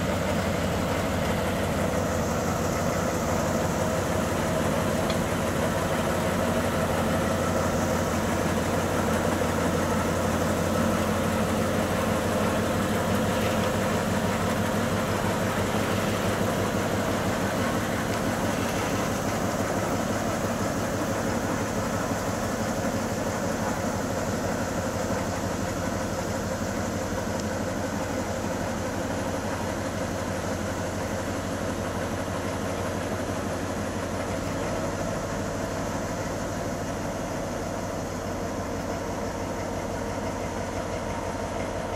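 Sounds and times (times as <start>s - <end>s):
diesel locomotive idling: 0.0s - 41.9s.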